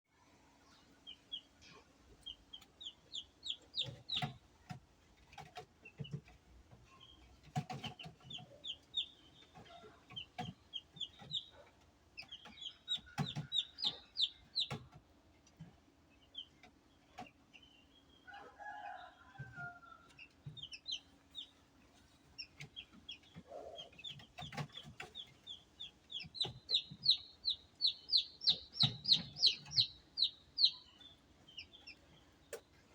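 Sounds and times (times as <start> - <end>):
chicks peeping: 0.6 - 32.9.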